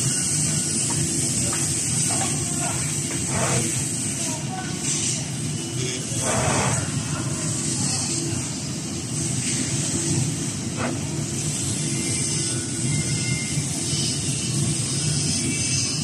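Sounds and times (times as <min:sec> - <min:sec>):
deburring machine humming and hissing: 0:00.0 - 0:16.0.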